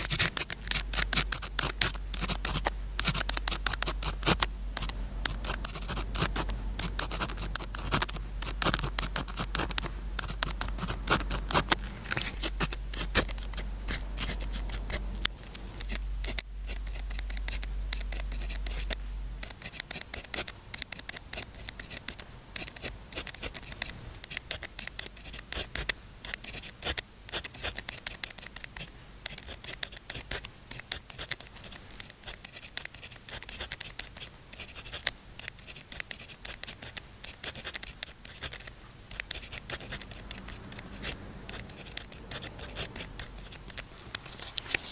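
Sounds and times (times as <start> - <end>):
steady low hum: 0.0 - 32.4, 33.4 - 44.9
pen scratching on paper: 0.0 - 44.9.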